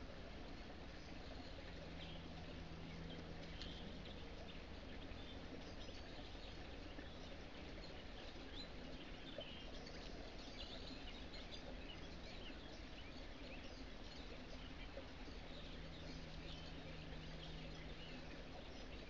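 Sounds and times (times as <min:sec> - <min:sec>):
low hiss and hum: 0:00.0 - 0:19.0
small birds chirping: 0:00.0 - 0:19.0.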